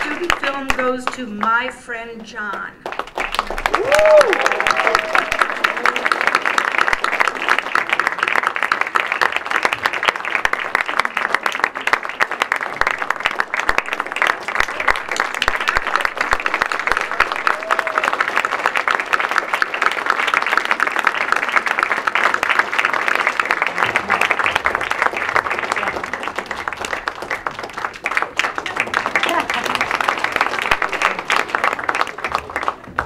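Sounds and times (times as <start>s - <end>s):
audience applauding: 0.0s - 1.7s, 2.8s - 33.0s.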